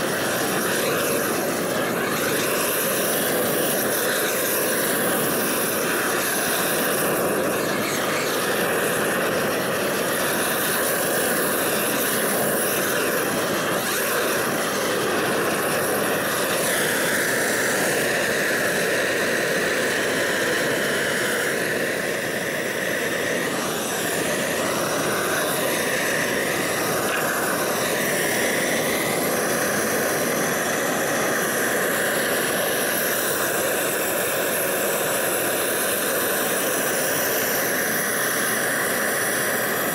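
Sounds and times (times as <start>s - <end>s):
propane torch hissing: 0.0s - 39.9s.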